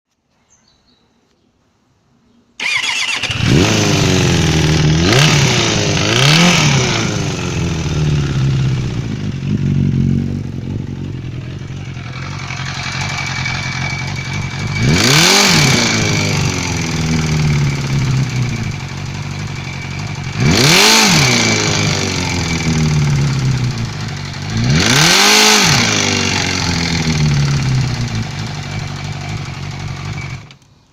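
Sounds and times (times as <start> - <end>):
motorcycle engine starting and revving: 2.6 - 30.8.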